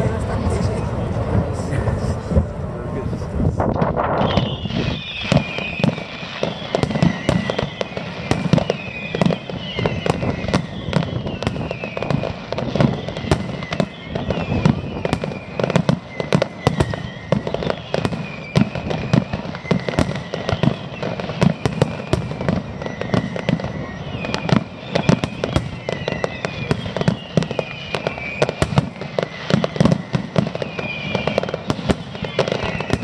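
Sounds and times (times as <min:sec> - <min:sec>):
fireworks bangs and crackles: 0:00.0 - 0:33.0
whistling fireworks: 0:00.0 - 0:33.0.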